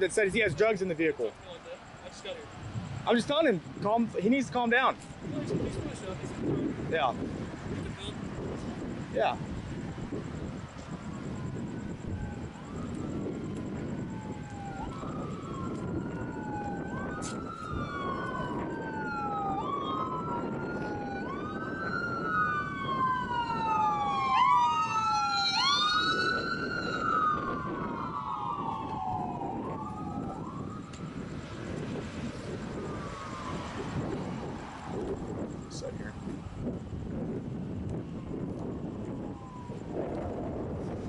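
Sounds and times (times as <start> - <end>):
emergency sirens wailing: 0.0 - 41.0.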